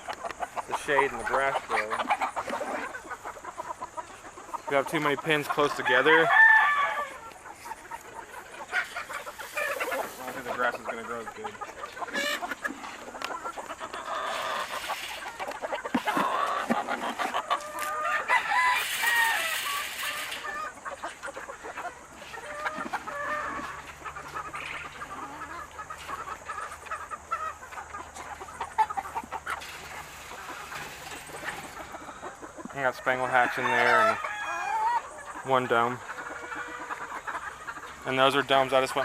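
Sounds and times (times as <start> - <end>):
chickens clucking: 0.0 - 39.0
roosters crowing: 0.0 - 39.0.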